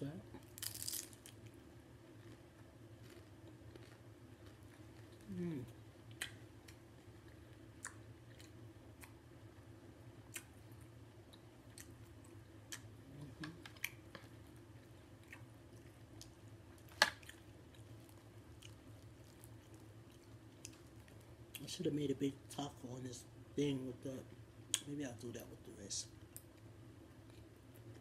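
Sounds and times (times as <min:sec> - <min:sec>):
steady low hum: 0:00.0 - 0:28.0
chewing crunchy taco shell: 0:00.4 - 0:09.6, 0:10.2 - 0:21.8, 0:26.2 - 0:28.0.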